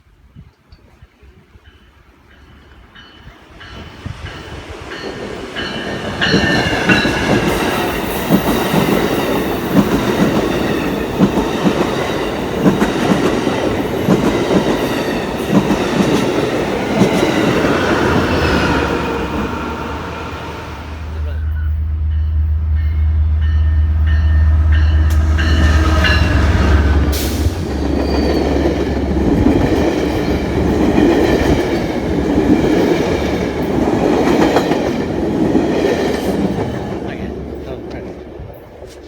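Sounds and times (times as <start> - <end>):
train passing: 1.4 - 39.0.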